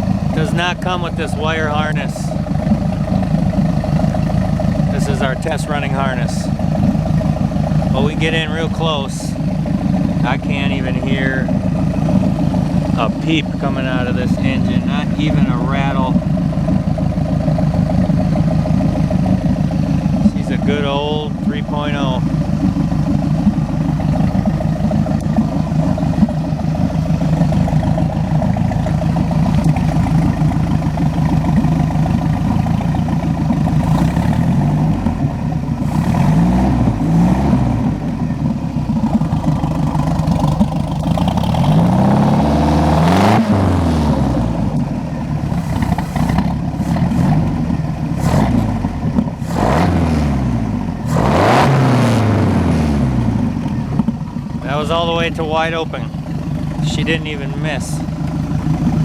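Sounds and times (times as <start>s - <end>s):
boat engine idling and revving: 0.0s - 59.0s.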